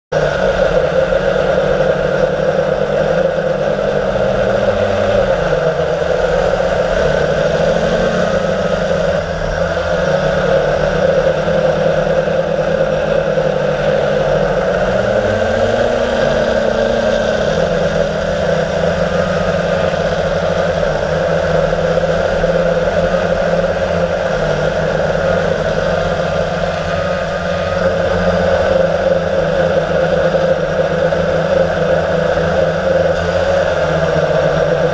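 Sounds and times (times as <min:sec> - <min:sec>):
quadcopter propellers whirring: 0:00.2 - 0:34.9.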